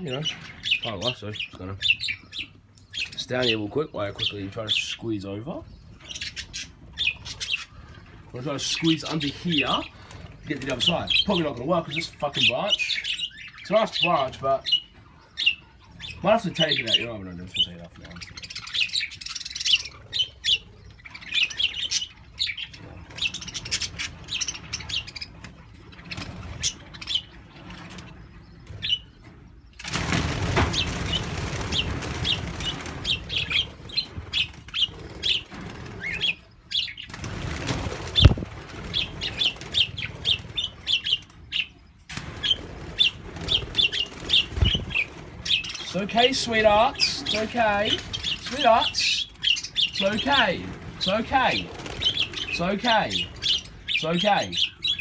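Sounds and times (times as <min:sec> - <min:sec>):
budgerigars chirping: 0:00.0 - 0:55.0
wings fluttering and rustling: 0:00.0 - 0:55.0.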